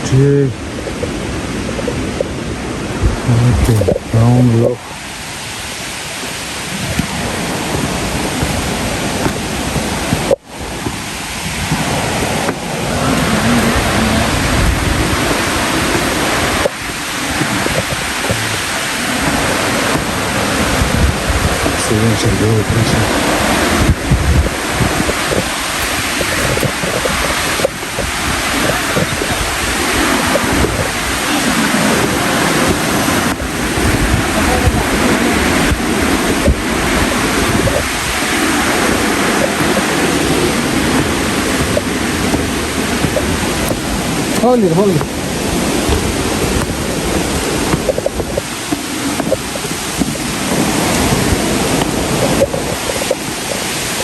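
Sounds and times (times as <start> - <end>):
waterfall roaring: 0.0 - 54.0
wind buffeting microphone: 0.0 - 54.0.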